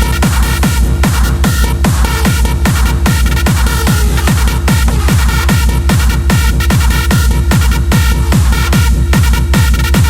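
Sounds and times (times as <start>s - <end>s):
hardstyle dance music: 0.0s - 10.0s.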